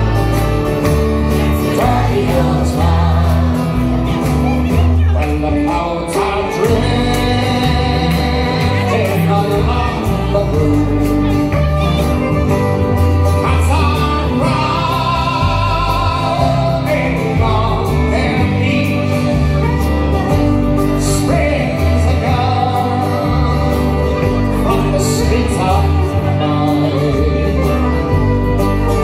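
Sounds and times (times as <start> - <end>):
acoustic guitar: 0.0 - 29.0
banjo: 0.0 - 29.0
bass guitar: 0.0 - 29.0
electric guitar: 0.0 - 29.0
man singing: 1.2 - 12.3, 13.1 - 29.0.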